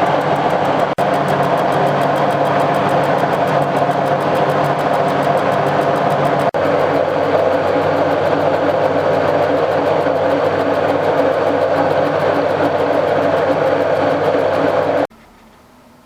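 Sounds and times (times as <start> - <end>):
milling machine drone: 0.0 - 15.1.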